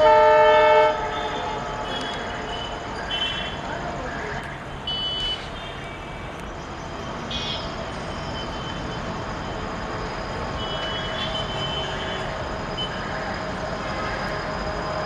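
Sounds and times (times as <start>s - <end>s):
diesel locomotive engine humming: 0.0s - 15.0s.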